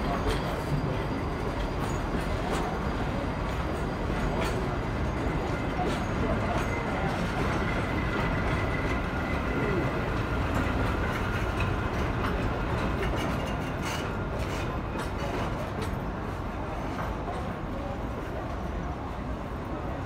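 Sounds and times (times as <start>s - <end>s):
train wheels clattering on rails: 0.0s - 18.5s.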